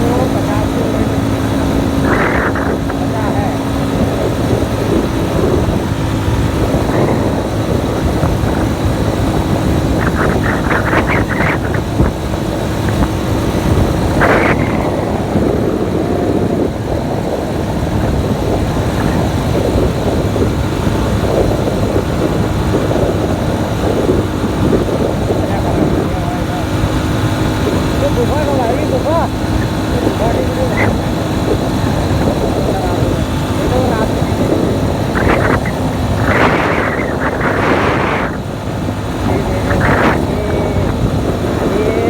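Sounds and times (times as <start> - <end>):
motorcycle engine and road noise: 0.0 - 42.0
wind rush over microphone: 0.0 - 42.0.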